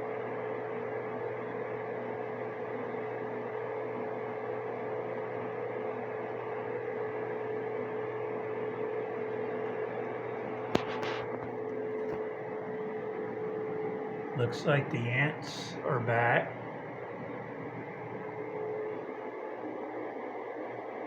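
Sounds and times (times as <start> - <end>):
dehumidifier fan hiss and hum: 0.0 - 21.0.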